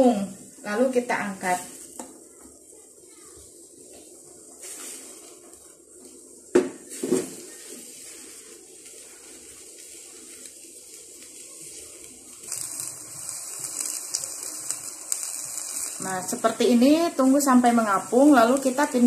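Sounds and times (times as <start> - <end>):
hiss with small crackles: 0.0 - 19.0
low steady pot background: 0.0 - 19.0.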